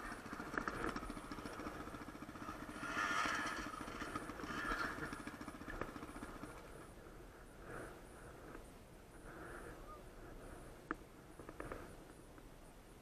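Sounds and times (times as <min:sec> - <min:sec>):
dirt bike engine idling: 0:00.0 - 0:12.3.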